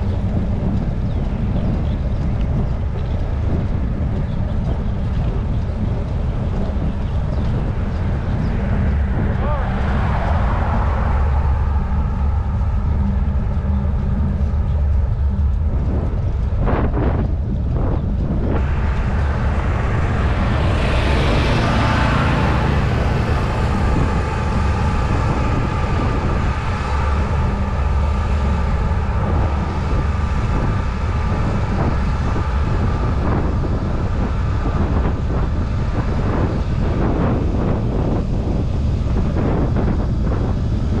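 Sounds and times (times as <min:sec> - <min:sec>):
road noise: 0:00.0 - 0:41.0
wind buffeting microphone: 0:00.0 - 0:41.0.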